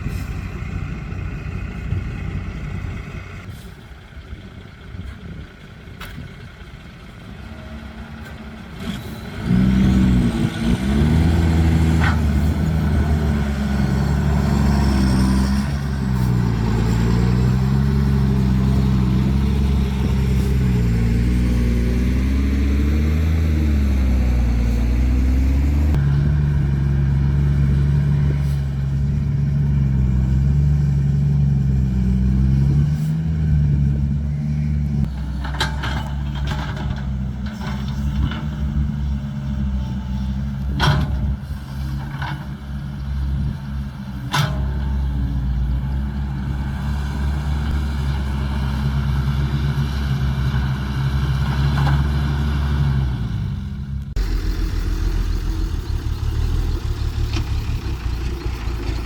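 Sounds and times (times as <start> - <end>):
excavator diesel engine working: 0.0 - 59.0.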